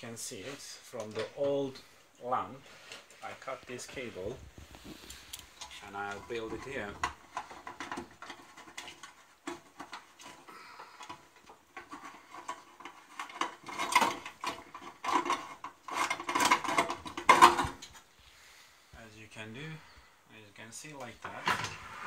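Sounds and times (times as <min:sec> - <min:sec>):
metal scraping and rattling: 0:00.0 - 0:18.1.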